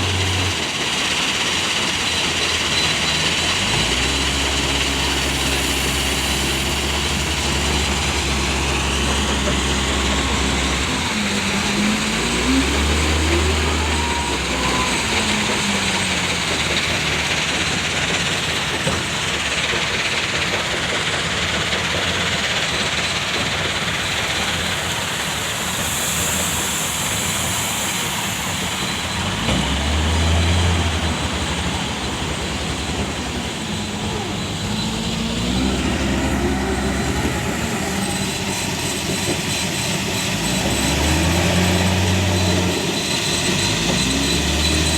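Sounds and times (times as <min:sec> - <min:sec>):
truck diesel engine labouring: 0:00.0 - 0:44.9
truck rumbling and rattling on road: 0:00.0 - 0:44.9.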